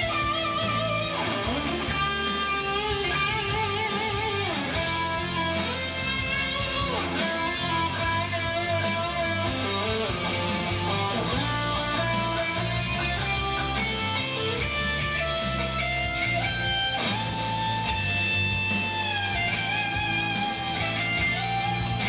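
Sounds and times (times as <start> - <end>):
electric guitar melodic lead: 0.0 - 22.0.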